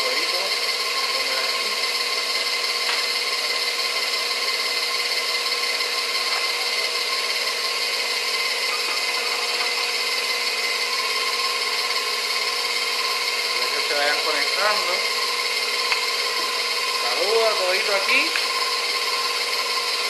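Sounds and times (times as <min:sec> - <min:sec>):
stand mixer motor whining: 0:00.0 - 0:20.0.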